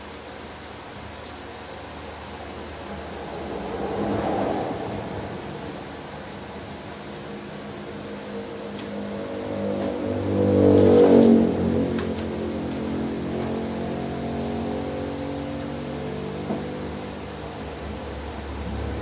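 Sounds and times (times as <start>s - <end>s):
engine humming: 1.2s - 19.0s.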